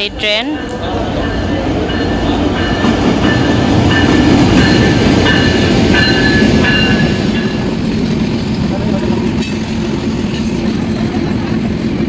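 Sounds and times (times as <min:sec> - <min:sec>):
train carriages rumbling past: 0:00.0 - 0:12.0.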